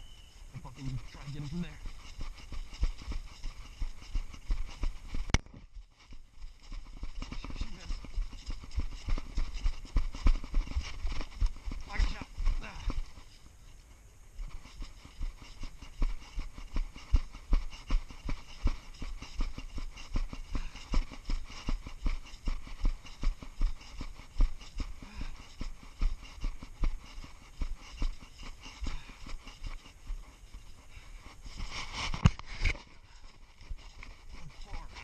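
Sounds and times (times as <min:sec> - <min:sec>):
footsteps jogging: 0:00.0 - 0:13.4, 0:14.4 - 0:35.0.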